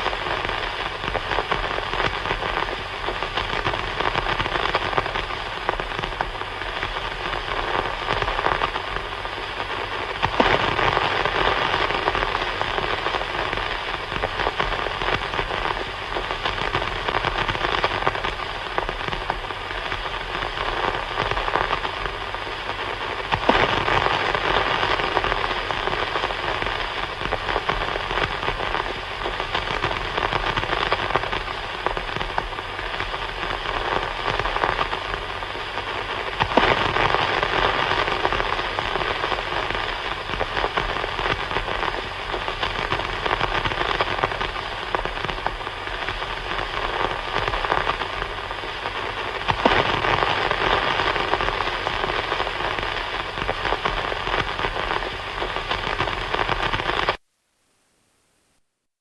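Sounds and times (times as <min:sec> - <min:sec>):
walkie-talkie static hiss: 0:00.0 - 0:58.9.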